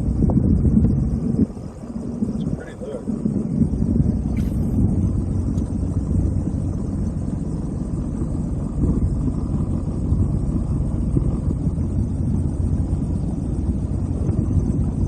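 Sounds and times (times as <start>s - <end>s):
jet ski engine idling: 0.0s - 15.0s.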